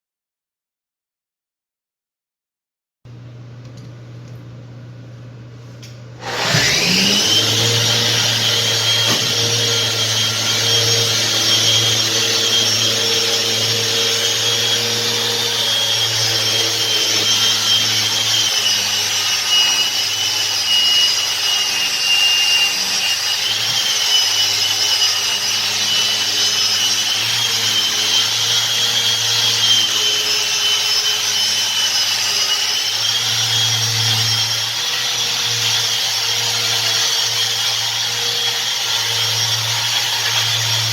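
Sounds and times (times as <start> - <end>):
electric sander grinding marble: 6.2 - 40.9.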